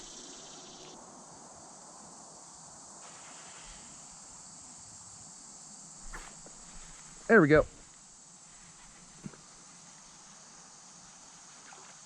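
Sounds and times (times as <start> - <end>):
faint insect drone: 0.0 - 12.0.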